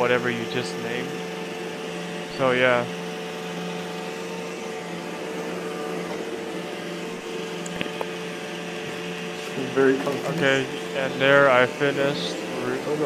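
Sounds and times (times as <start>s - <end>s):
robot vacuum humming: 0.0s - 13.0s.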